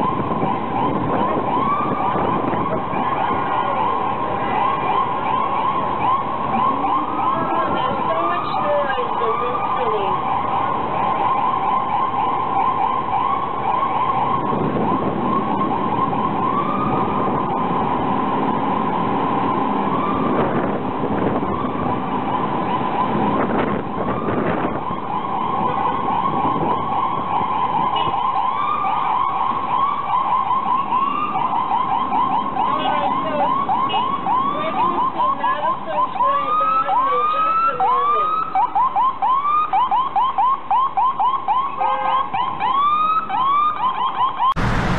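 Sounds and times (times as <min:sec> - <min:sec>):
road noise: 0:00.0 - 0:38.6, 0:44.6 - 0:44.9
ambulance siren: 0:00.0 - 0:44.9.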